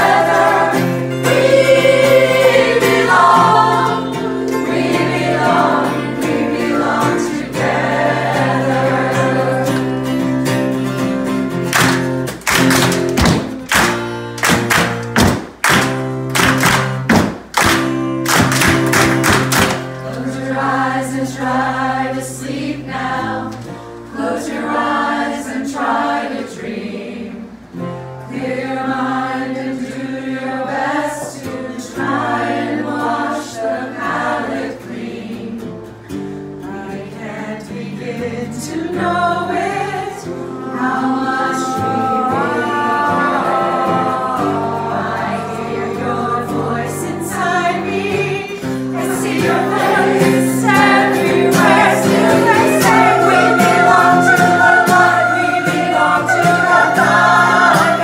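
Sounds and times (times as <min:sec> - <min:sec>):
choir singing a pop song: 0:00.0 - 0:10.8, 0:20.0 - 0:27.7, 0:28.3 - 0:35.7, 0:36.6 - 0:58.0
strummed acoustic guitar: 0:00.0 - 0:21.4, 0:31.0 - 0:58.0.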